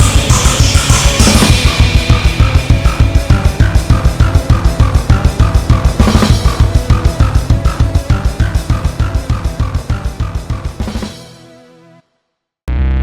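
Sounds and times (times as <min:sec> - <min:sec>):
fast instrumental music: 0:00.0 - 0:11.8.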